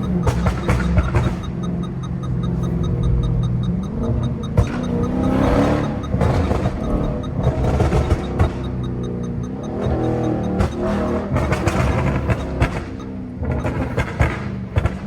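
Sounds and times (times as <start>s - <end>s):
car engine accelerating: 0.0s - 15.0s
exhaust pops: 0.0s - 15.0s.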